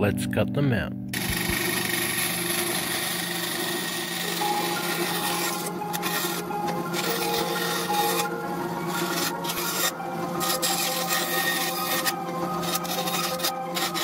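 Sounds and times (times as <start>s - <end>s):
band saw humming: 1.1s - 14.0s
saw blade cutting plastic sheet: 1.2s - 14.0s.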